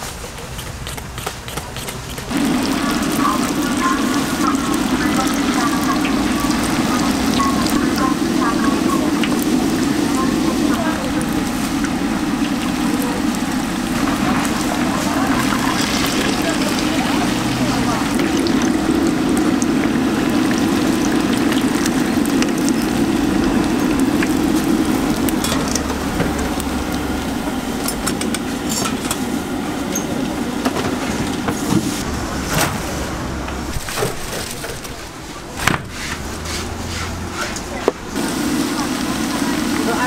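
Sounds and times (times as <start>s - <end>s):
deep-frying oil sizzling and crackling: 0.0s - 40.0s.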